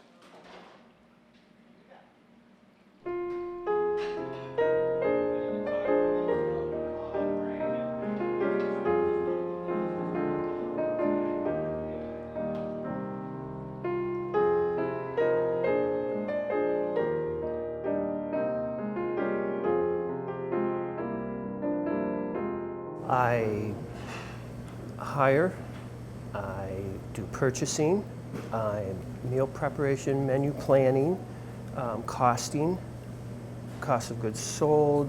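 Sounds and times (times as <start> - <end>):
piano music: 3.0 - 35.0.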